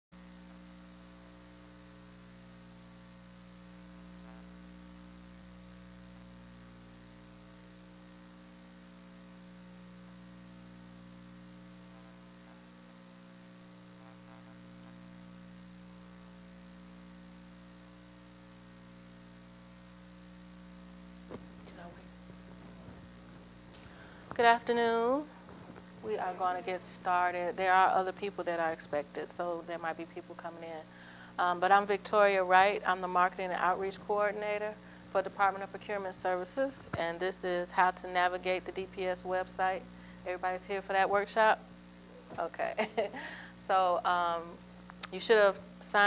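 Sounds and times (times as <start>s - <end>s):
electrical mains hum: 0.2s - 46.0s.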